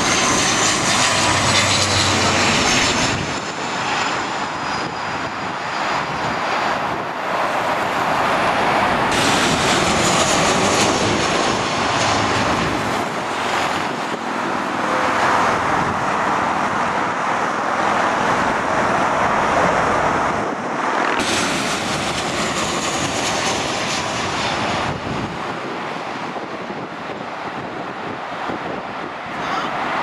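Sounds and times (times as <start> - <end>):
jet on runway hissing: 0.0 - 17.2, 18.2 - 29.1
jet engine roar: 0.0 - 30.0.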